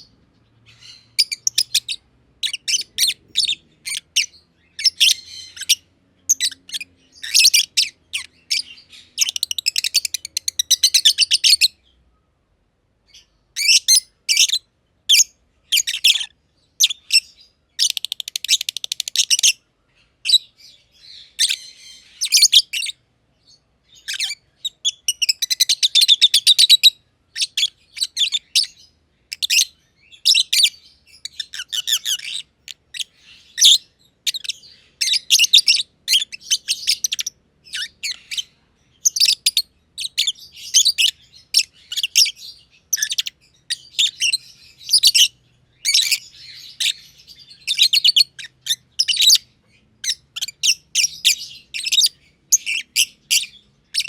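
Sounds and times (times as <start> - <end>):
lovebirds chirping: 0.0 - 54.0.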